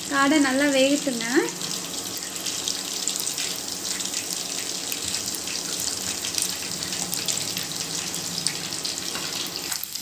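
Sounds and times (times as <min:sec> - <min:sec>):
meat deep-frying in oil: 0:00.0 - 0:10.0.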